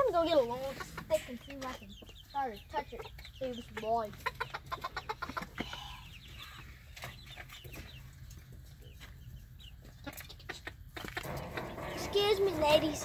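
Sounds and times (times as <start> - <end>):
hens clucking softly: 0.4 - 13.0.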